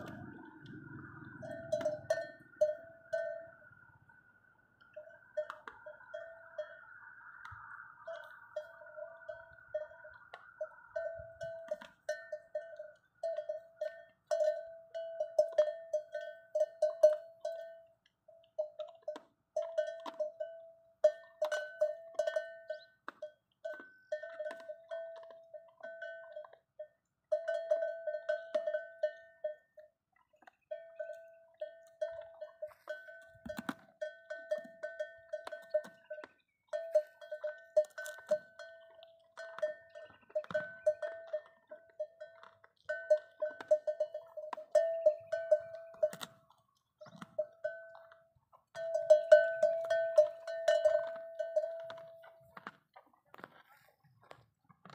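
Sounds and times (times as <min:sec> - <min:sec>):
camel bell clanking: 0:00.0 - 0:54.9.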